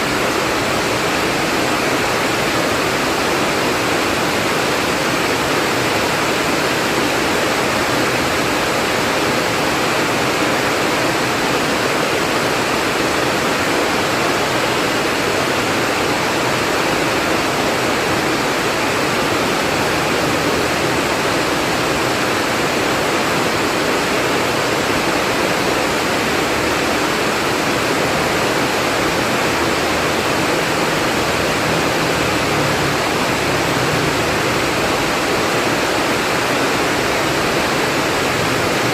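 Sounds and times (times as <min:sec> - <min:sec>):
heavy pouring rain: 0:00.0 - 0:38.9.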